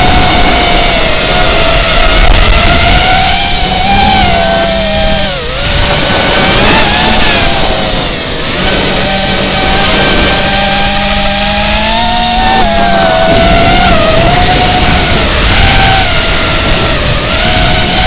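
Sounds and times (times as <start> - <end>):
drone motors whining: 0.0 - 18.0
wind rushing: 0.0 - 18.0.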